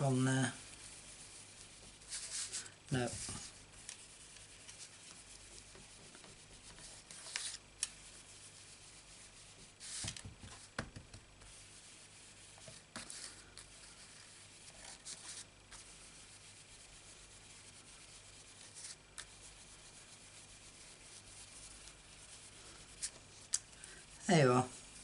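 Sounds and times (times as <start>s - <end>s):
brush scratching on cardstock: 0.0s - 25.0s.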